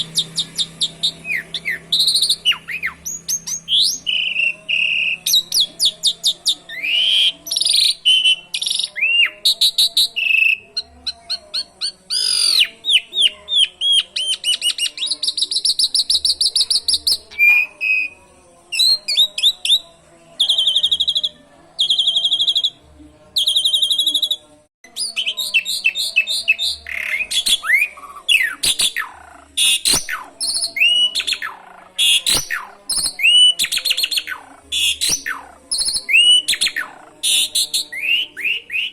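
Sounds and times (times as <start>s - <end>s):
starling singing whistles and trills: 0.0s - 22.8s, 23.4s - 38.9s.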